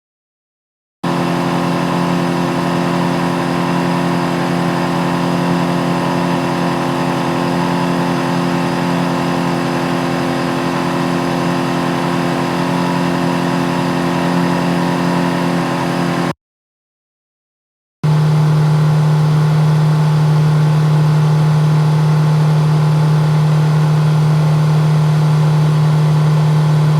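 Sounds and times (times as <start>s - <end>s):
outboard motor running: 1.0s - 16.3s, 18.0s - 26.9s.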